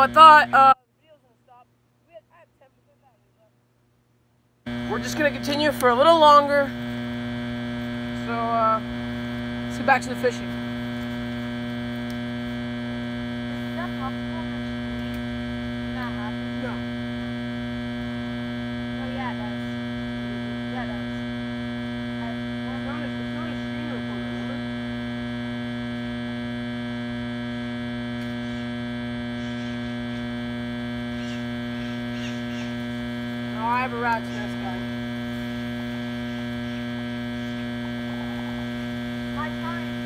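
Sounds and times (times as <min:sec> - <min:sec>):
steady electrical hum: 0:00.0 - 0:40.0.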